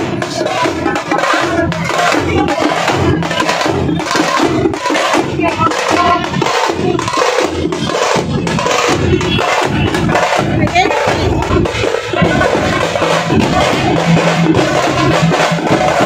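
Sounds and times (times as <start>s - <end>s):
crowd noise: 0.0s - 16.0s
street drums playing: 0.0s - 16.0s.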